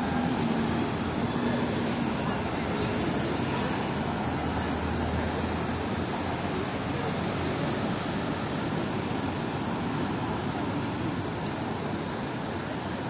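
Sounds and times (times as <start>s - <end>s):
cars and bus passing: 0.0s - 13.0s
road noise: 0.0s - 13.0s.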